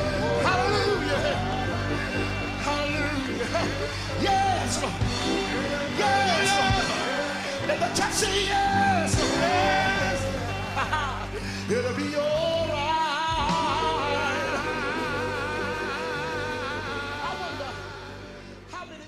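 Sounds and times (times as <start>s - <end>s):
instrumental backing: 0.0s - 19.0s
male vocal quartet singing: 0.0s - 19.0s.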